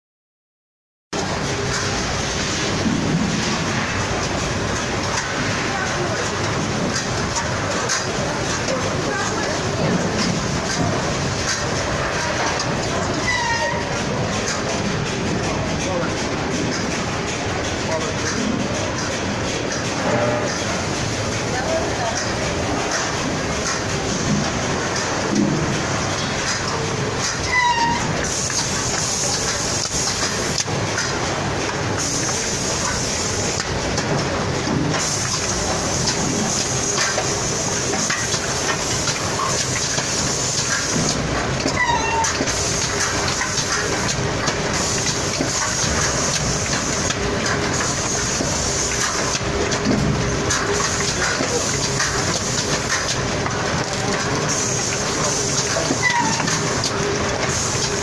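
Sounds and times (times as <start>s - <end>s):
packing machine running: 1.2s - 58.0s.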